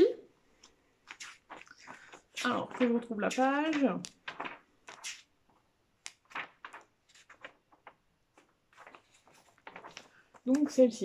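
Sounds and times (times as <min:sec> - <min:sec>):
magazine pages rustling: 0:00.5 - 0:11.0.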